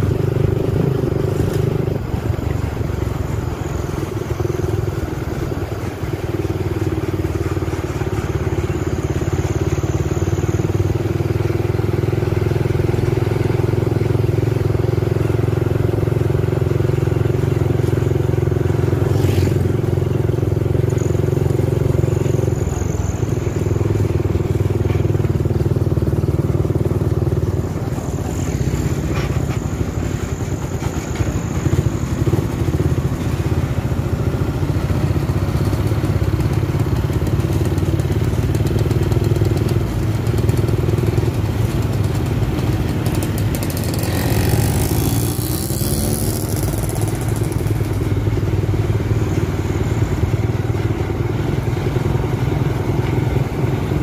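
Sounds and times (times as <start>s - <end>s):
vehicle engines droning: 0.0s - 54.0s.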